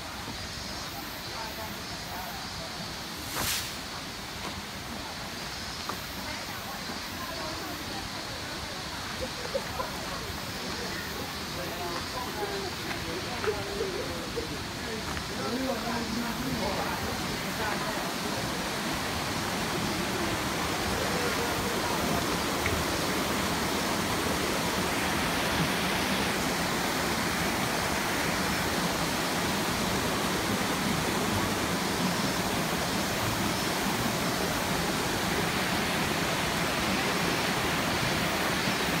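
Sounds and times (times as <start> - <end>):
stream rushing over boulders: 0.0 - 39.0.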